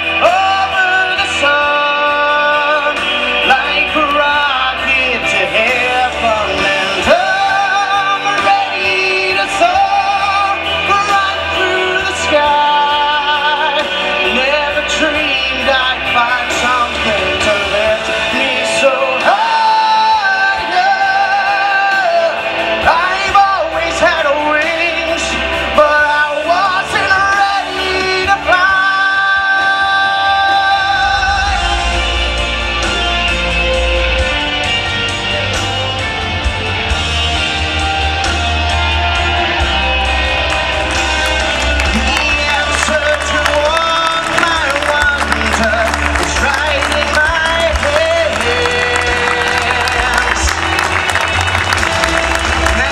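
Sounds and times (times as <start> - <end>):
band accompaniment: 0.0 - 52.9
man singing with vibrato: 0.0 - 52.9.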